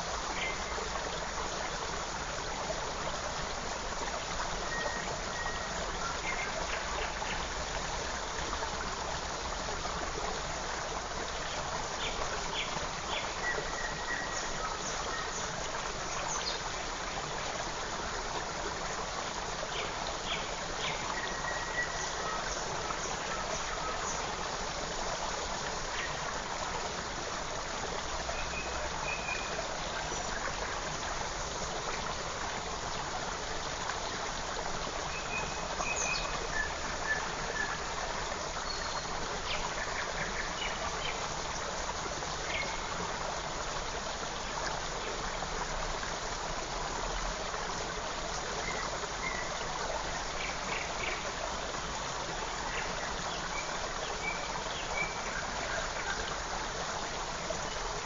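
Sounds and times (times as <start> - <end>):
stream running: 0.0 - 58.0.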